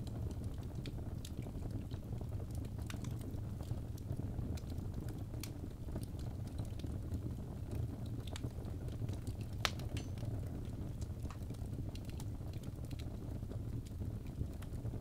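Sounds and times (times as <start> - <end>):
logs crackling in fireplace: 0.0 - 15.0
low fire rumble: 0.0 - 15.0.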